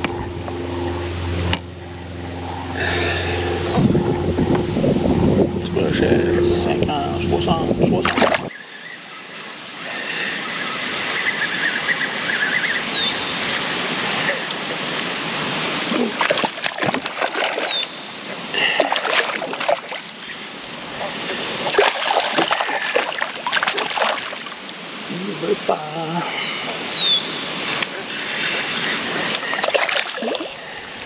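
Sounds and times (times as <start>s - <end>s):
water lapping against kayak: 0.0s - 31.0s.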